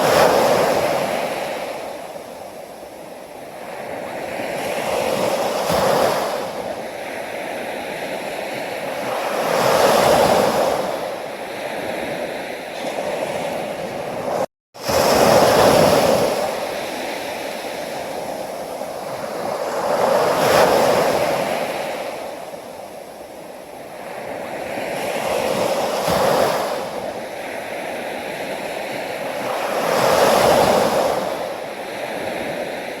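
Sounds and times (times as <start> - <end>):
sea waves breaking on shore: 0.0 - 33.0.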